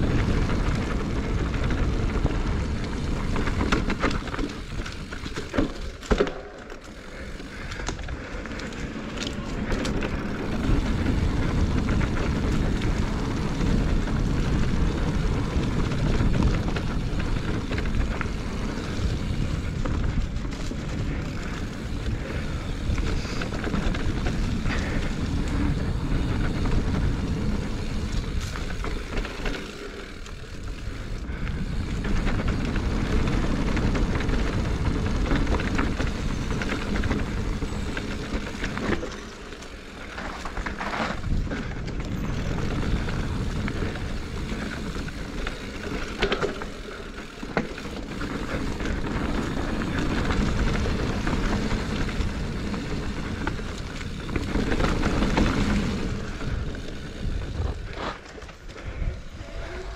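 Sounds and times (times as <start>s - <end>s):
bike tyres on dirt: 0.0s - 59.9s
rushing wind: 0.0s - 59.9s.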